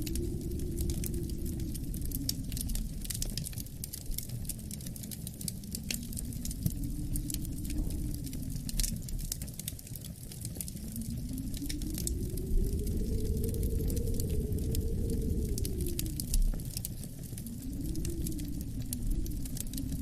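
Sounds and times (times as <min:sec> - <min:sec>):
low gusting wind: 0:00.0 - 0:20.0
wood fire crackling and popping: 0:00.0 - 0:20.0.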